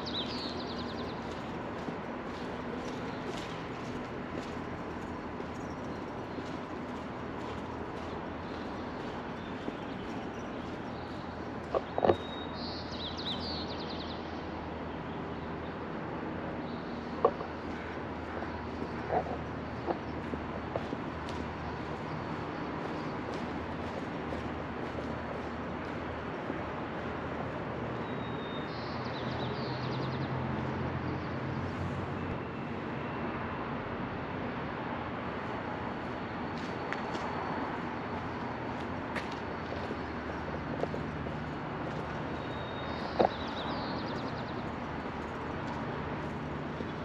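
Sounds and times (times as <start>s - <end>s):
city traffic: 0.0s - 47.0s.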